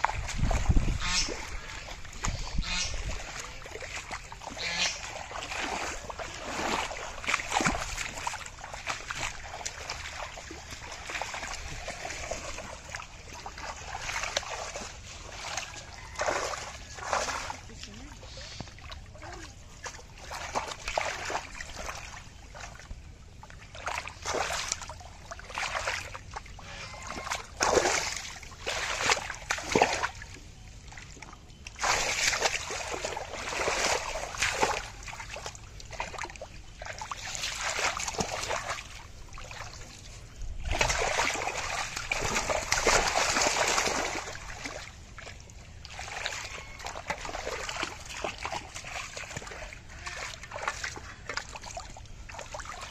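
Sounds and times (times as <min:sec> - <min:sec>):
splashing in shallow muddy water: 0:00.0 - 0:52.9.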